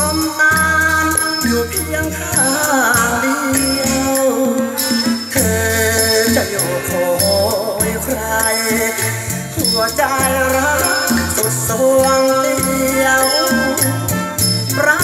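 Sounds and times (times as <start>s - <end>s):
song with bass and shaker percussion: 0.0s - 15.0s.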